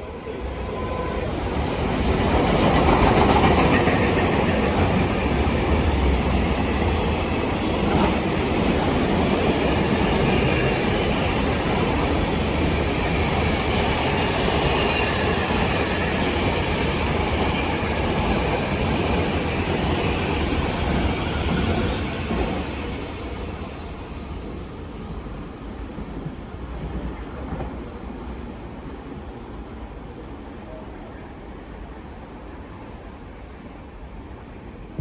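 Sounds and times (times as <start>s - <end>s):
train wheels rumbling on track: 0.0s - 29.5s.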